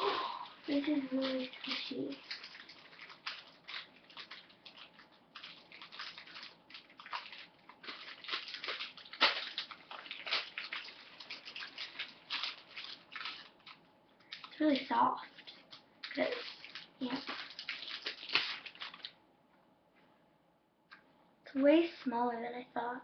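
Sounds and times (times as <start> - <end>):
squishy toy crinkling: 0.6 - 19.2.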